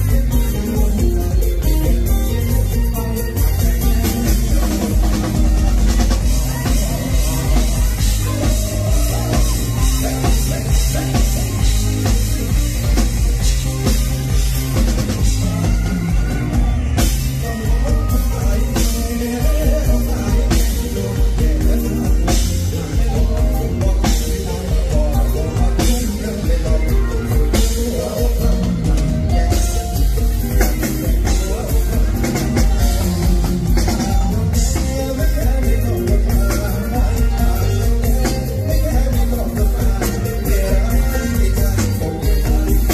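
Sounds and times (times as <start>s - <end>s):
drum kit beat: 0.0s - 42.9s
live band through a pa: 0.0s - 42.9s
man singing into a microphone: 0.0s - 42.9s.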